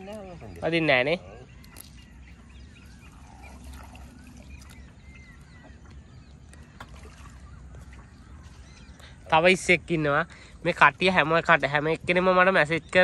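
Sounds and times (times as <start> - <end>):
faint bird calls: 0.0 - 13.0.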